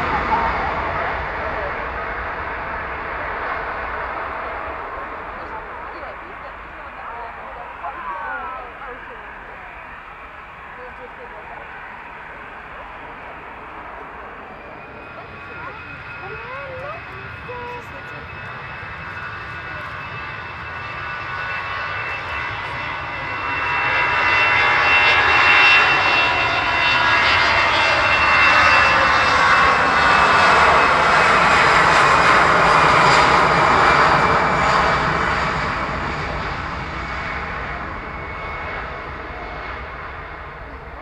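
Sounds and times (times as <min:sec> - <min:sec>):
aircraft engine whine: 0:00.0 - 0:41.0.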